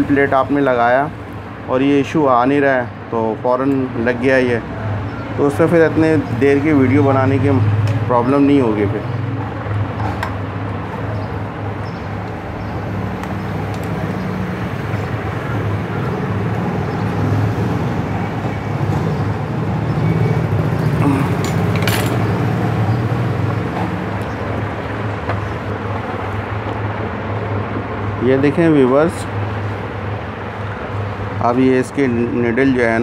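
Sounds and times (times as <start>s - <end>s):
low rumble of motor traffic: 0.0s - 33.0s.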